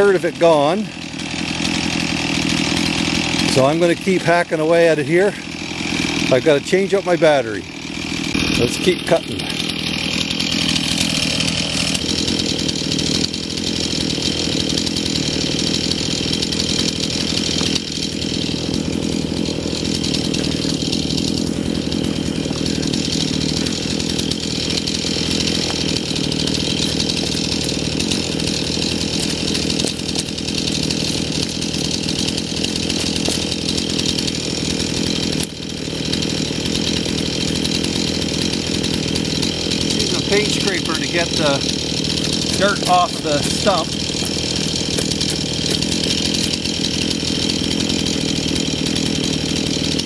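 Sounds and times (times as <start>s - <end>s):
chainsaw running: 0.0s - 50.0s.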